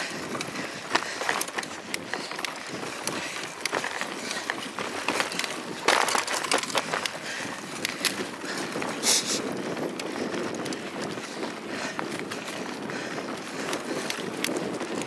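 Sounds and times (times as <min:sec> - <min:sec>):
bike knocks and rattles: 0:00.0 - 0:15.0
bike tyres rumbling on dirt: 0:00.0 - 0:15.0.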